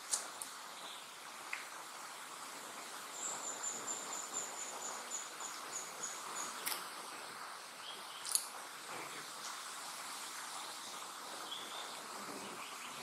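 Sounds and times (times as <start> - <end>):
steady forest hiss: 0.0 - 13.0.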